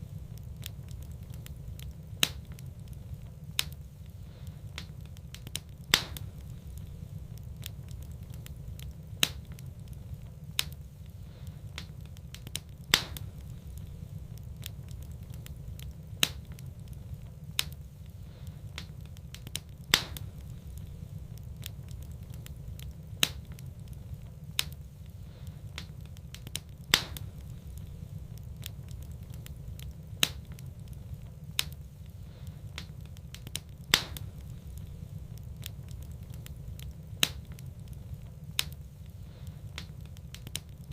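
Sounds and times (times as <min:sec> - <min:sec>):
sharp pops of fire: 0:00.0 - 0:40.9
steady low rumble: 0:00.0 - 0:40.9
wood fire crackling: 0:00.0 - 0:40.9.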